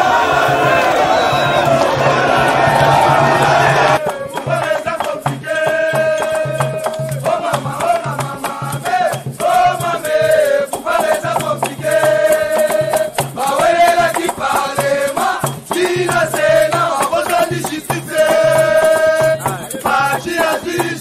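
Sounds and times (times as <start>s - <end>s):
shaker: 4.0s - 21.0s.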